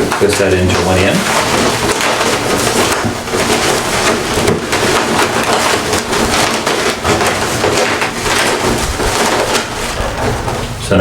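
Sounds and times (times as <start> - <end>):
balloons rubbing and squeaking: 0.0 - 11.0.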